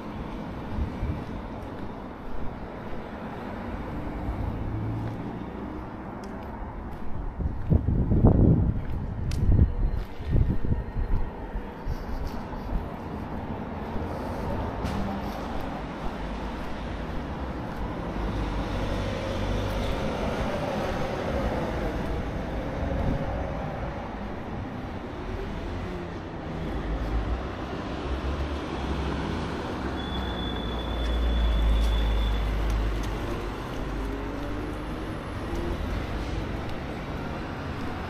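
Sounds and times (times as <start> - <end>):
vehicle engines: 0.0 - 38.0.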